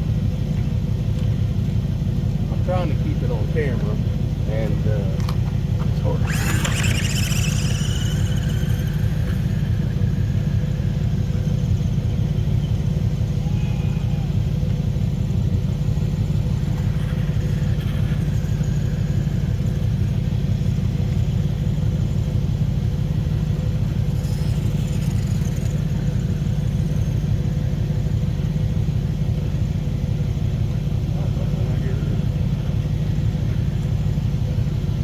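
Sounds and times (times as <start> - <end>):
small engine humming: 0.0 - 35.0.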